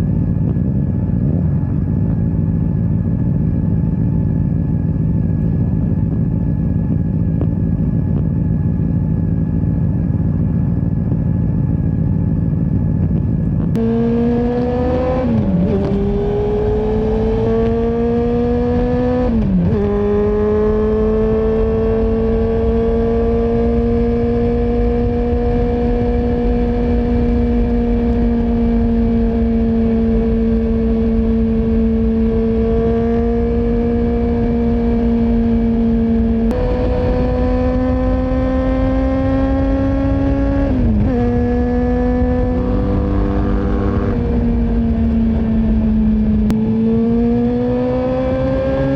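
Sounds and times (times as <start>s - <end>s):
motorcycle engine revving through gears: 0.0s - 48.9s
wind rumble: 0.0s - 48.9s.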